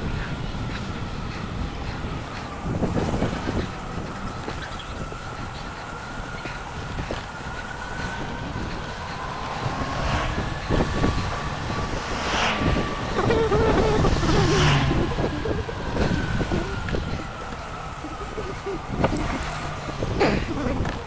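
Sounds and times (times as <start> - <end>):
motor vehicle passing: 0.0 - 21.0
road noise: 0.0 - 21.0
wind buffeting microphone: 0.0 - 21.0.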